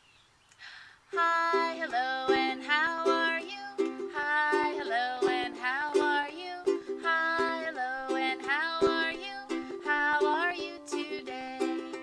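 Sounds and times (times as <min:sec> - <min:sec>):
ukulele strumming chords: 0:01.1 - 0:12.0
woman singing: 0:01.1 - 0:12.0.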